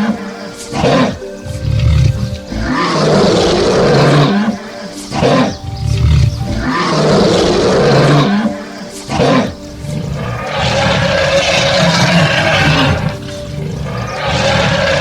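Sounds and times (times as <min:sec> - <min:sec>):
background music: 0:00.0 - 0:15.0
big cat roaring: 0:00.0 - 0:15.0.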